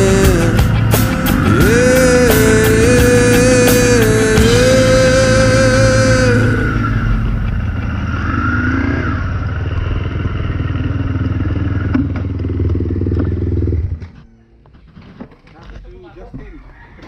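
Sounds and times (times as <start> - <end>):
dirt bike engine running: 0.0 - 14.2.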